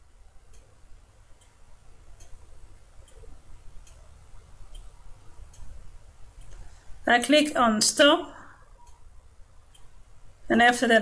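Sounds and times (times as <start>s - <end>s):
faint regular ticking: 0.0s - 11.0s.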